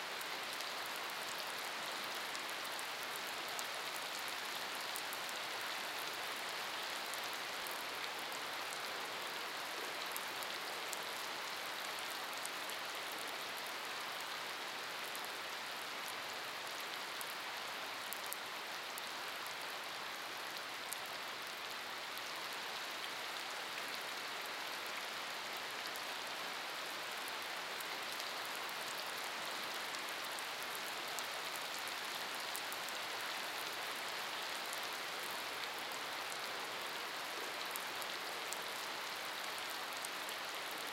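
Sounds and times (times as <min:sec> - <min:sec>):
rain falling on wet surface: 0:00.0 - 0:40.9.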